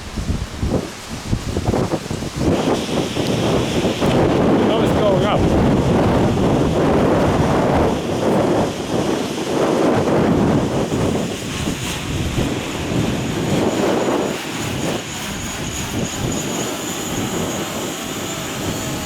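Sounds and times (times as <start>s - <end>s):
drone propellers whining: 0.0s - 19.0s
strong wind buffeting microphone: 0.0s - 19.0s.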